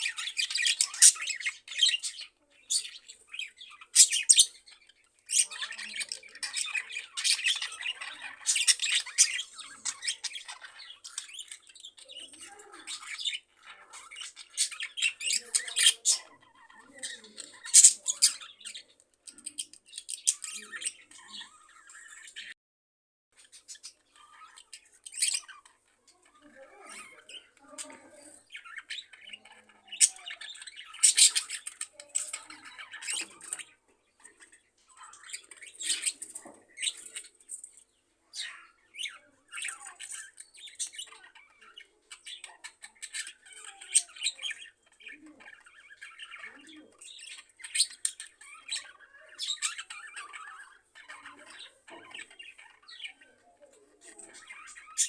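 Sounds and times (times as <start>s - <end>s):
budgerigars chirping and squawking: 0.0s - 22.6s, 23.4s - 55.0s.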